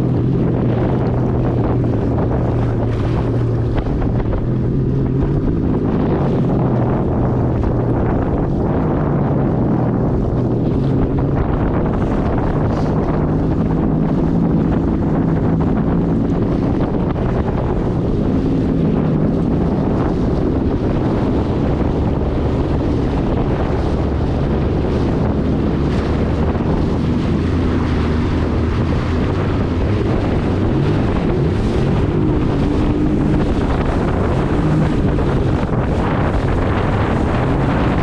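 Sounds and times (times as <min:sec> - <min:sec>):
water rushing past hull: 0:00.0 - 0:38.0
watercraft engine running: 0:00.0 - 0:38.0
wind buffeting microphone: 0:00.0 - 0:38.0.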